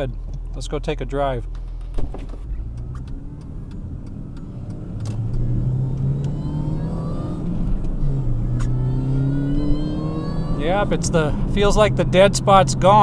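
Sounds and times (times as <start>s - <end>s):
car engine accelerating: 0.1s - 13.0s.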